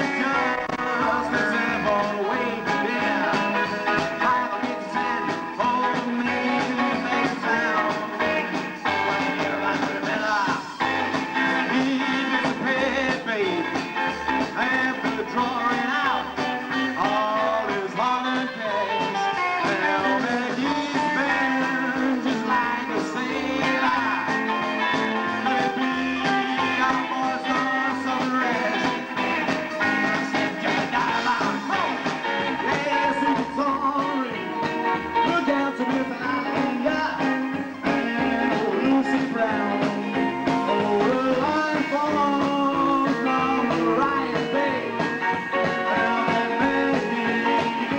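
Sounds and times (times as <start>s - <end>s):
live rockabilly band: 0.0s - 47.9s.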